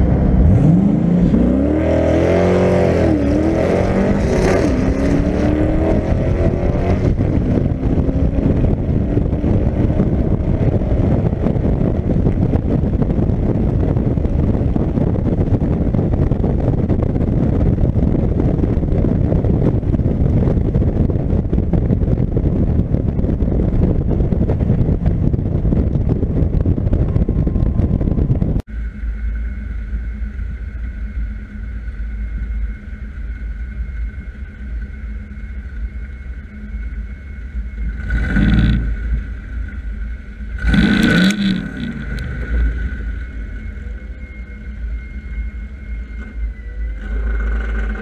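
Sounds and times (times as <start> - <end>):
engine noise bursts: 0.0 - 48.0
loud car engine at speed: 0.0 - 48.0
engine idling: 6.4 - 48.0.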